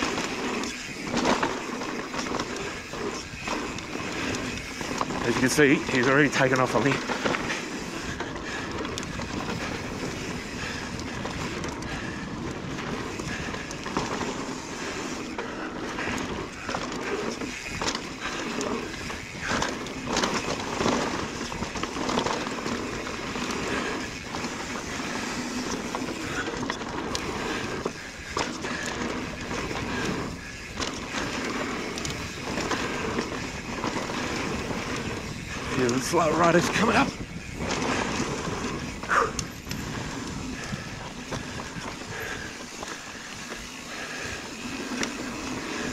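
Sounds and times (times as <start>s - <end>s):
bike rattling over rocks: 0.0s - 45.9s
bike tyres rushing on dirt: 0.0s - 45.9s.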